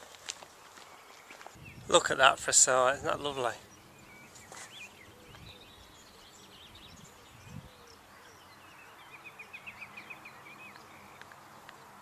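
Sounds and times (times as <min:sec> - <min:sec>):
faint birdsong chirps: 0:00.0 - 0:12.0.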